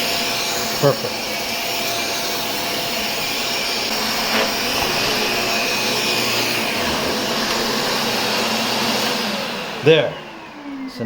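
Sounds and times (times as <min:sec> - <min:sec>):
vacuum cleaner running on carpet: 0:00.0 - 0:11.0.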